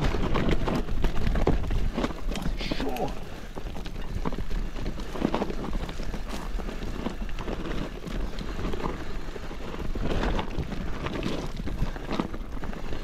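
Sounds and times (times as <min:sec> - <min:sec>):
bike tyres and frame clattering: 0:00.0 - 0:13.0
wind buffeting microphone: 0:00.0 - 0:13.0.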